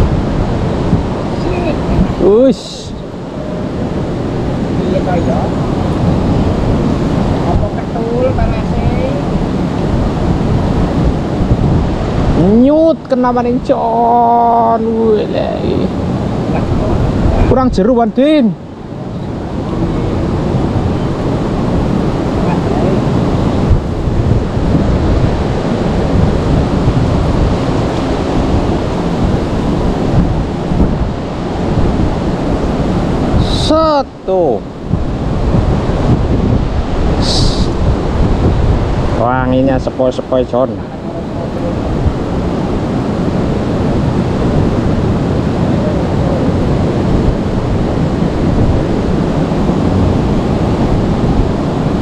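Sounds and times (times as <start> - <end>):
fast-flowing river water rushing: 0.0 - 52.0
wind on microphone: 0.0 - 52.0.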